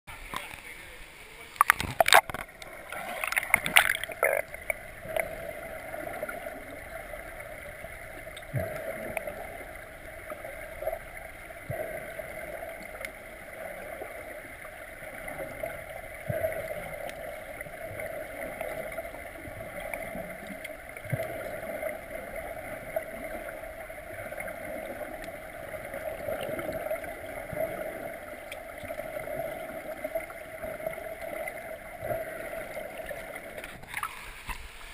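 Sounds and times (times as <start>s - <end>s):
muffled underwater noise: 0.1s - 34.9s.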